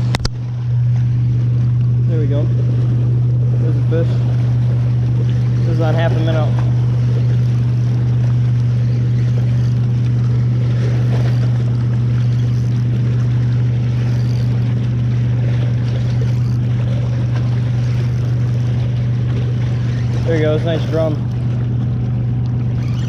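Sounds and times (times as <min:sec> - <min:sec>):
boat engine droning: 0:00.0 - 0:23.0
waves lapping against rocks: 0:00.0 - 0:23.0.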